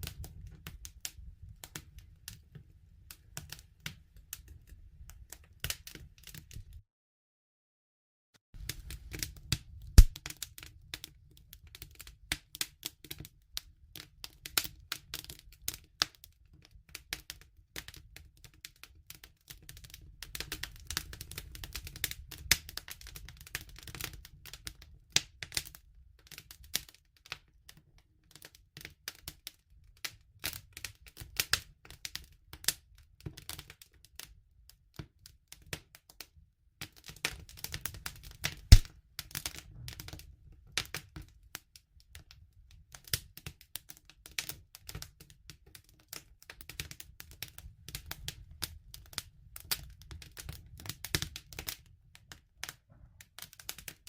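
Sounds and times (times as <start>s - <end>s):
wood fire crackling: 0.0s - 6.8s, 8.6s - 34.4s, 36.8s - 42.3s, 42.9s - 54.0s.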